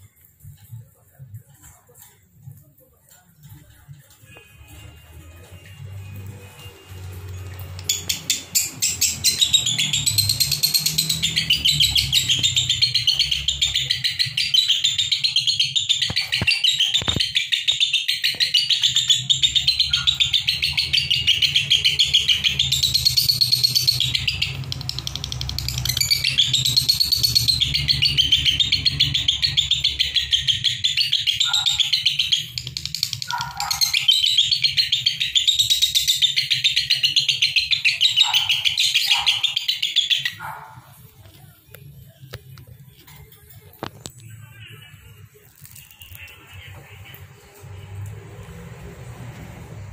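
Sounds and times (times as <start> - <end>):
lovebirds chattering: 4.3 - 48.4.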